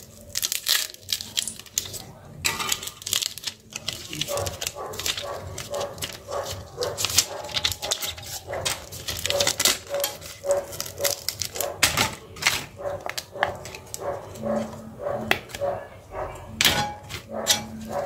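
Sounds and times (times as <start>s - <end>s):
foil and plastic film crinkling: 0.0s - 14.8s.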